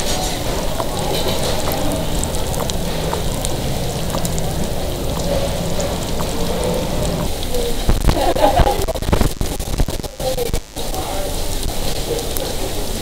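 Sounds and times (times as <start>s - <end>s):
batter sizzling on a griddle: 0.0s - 13.0s.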